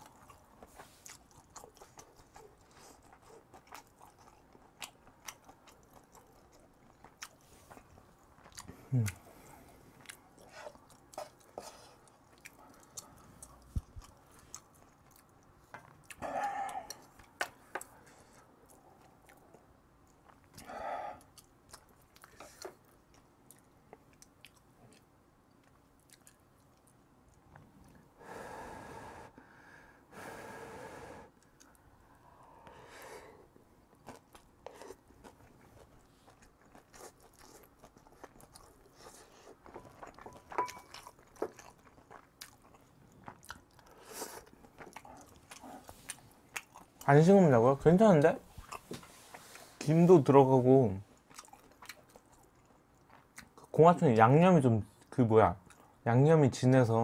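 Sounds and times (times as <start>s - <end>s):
person chewing food: 0.0s - 28.1s, 31.3s - 47.3s, 48.2s - 49.9s, 51.0s - 53.8s, 55.0s - 56.0s.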